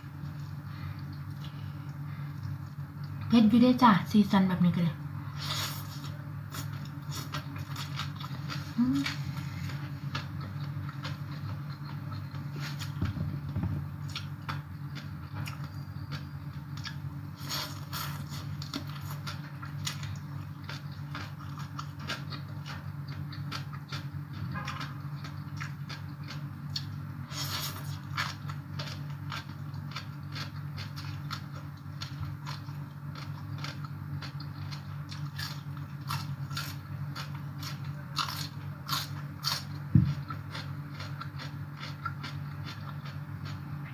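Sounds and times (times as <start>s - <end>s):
steady low hum: 0.0s - 43.9s
chewing crunchy salad: 5.3s - 43.9s.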